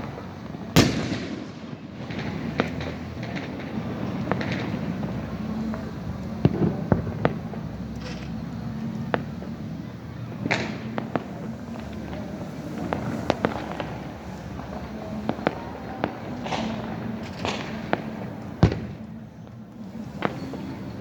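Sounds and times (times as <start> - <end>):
firecrackers crackling: 0.0 - 21.0
firework bangs and pops: 0.0 - 21.0.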